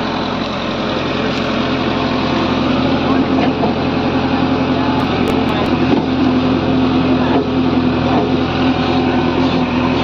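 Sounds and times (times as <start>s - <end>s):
diesel engine humming: 0.0s - 10.0s.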